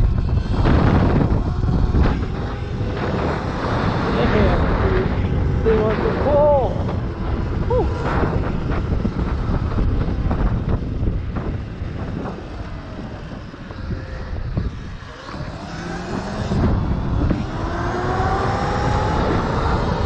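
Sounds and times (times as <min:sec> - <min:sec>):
tyre and road noise: 0:00.0 - 0:20.0
wind rushing over microphone: 0:00.0 - 0:20.0.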